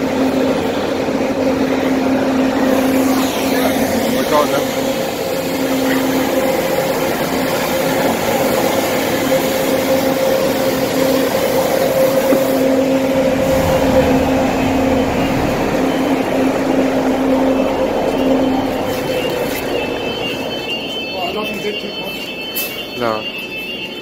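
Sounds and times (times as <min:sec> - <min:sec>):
low engine hum: 0:00.0 - 0:20.8
street traffic drone: 0:00.0 - 0:24.0.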